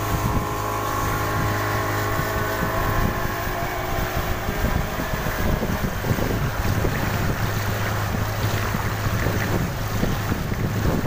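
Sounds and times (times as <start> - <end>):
outboard motor running: 0.0 - 11.0
water rushing along hull: 0.0 - 11.0.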